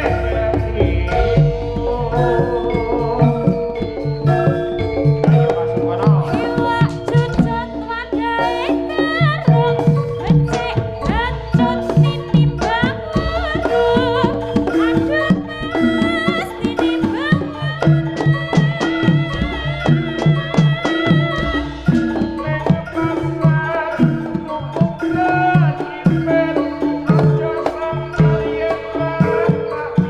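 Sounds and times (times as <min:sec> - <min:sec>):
gong-chime and metallophone tones: 0:00.0 - 0:30.0
hand drums beating: 0:00.0 - 0:30.0
wavering gliding melody: 0:00.0 - 0:30.0.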